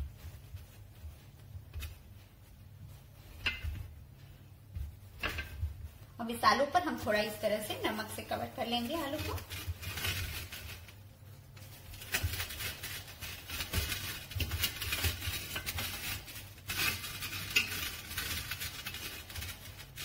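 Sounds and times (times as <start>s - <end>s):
hand rubbing potatoes: 0.0s - 20.0s.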